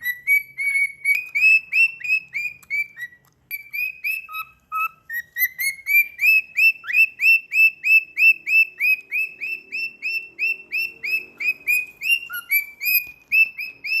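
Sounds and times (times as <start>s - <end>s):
cockatiel whistled chirps: 0.0s - 14.0s.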